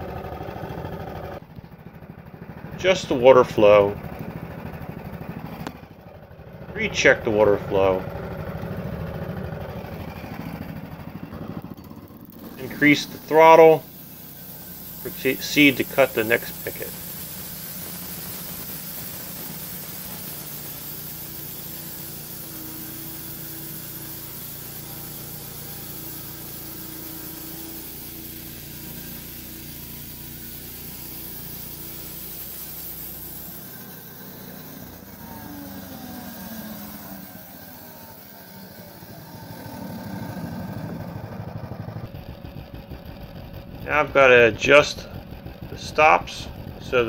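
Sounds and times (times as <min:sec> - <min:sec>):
bandsaw mill engine drone: 0:00.0 - 0:47.0.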